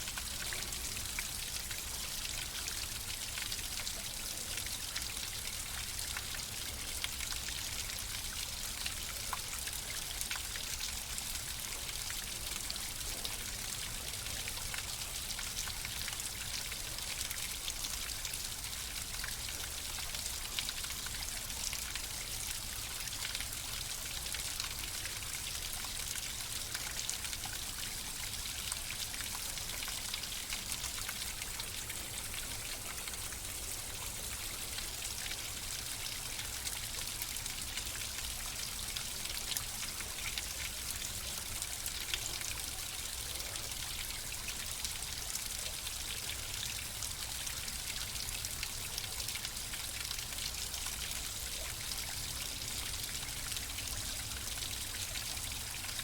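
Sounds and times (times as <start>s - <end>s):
trickling stream: 0.0s - 56.0s.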